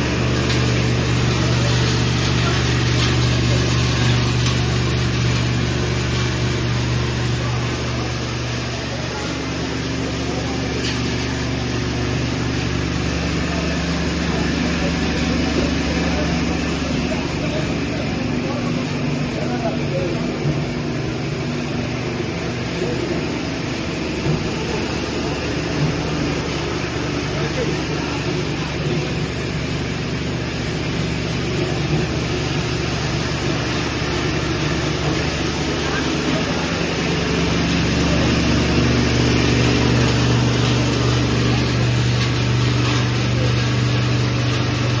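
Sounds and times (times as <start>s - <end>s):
faint voices: 0.0s - 45.0s
washing machine running: 0.0s - 45.0s.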